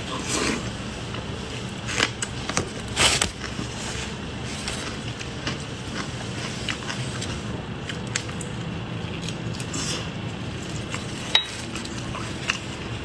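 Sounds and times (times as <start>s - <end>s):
steady low hum: 0.0s - 13.0s
person chewing food: 0.1s - 13.0s.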